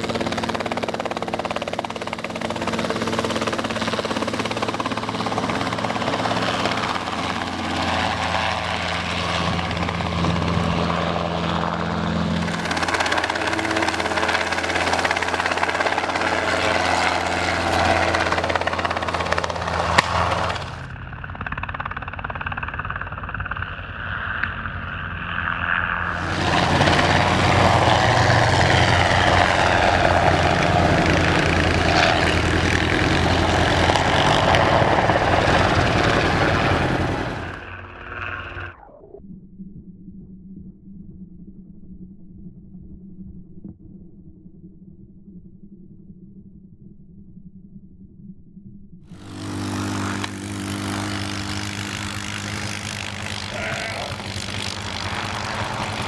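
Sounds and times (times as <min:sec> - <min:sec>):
helicopter rotor and engine: 0:00.0 - 0:39.1, 0:49.1 - 0:56.0.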